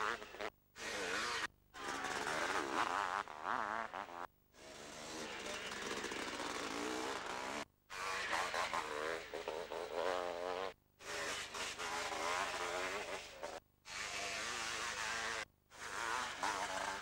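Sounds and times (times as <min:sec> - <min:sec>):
motocross bikes revving: 0:00.0 - 0:03.4, 0:04.7 - 0:09.9, 0:11.1 - 0:17.0.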